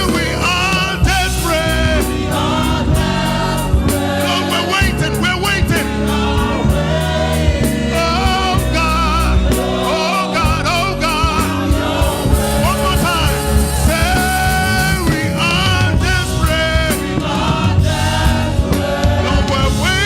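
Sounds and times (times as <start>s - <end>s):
bass line: 0.0s - 20.0s
choir singing gospel: 0.0s - 20.0s
drums steady beat: 0.0s - 20.0s.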